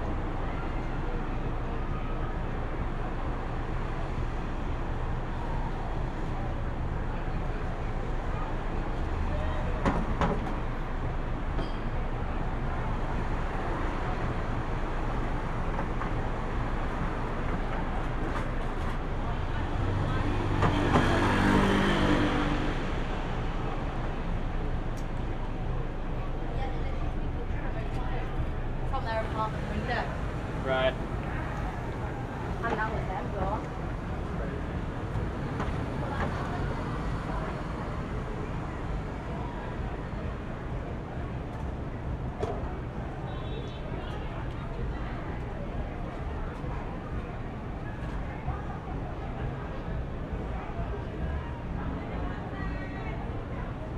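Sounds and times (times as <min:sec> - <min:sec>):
low urban rumble: 0:00.0 - 0:53.9
passing vehicles: 0:00.0 - 0:53.9.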